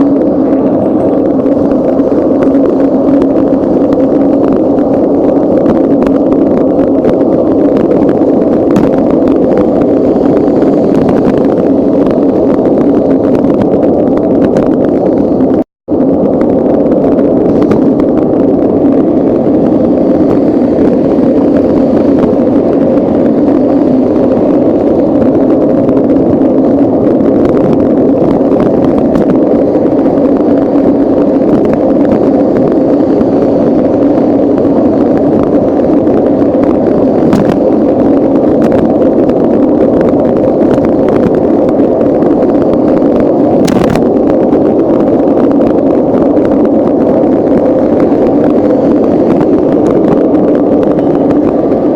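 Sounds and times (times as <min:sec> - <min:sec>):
bicycle rolling noise: 0:00.0 - 0:51.9
wind rushing: 0:00.0 - 0:51.9.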